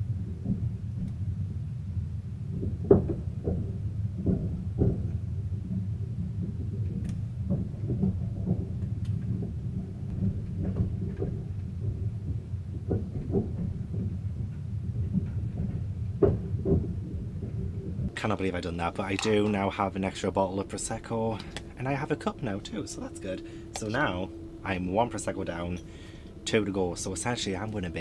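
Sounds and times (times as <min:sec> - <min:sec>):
train rumble from inside cabin: 0:00.0 - 0:28.0.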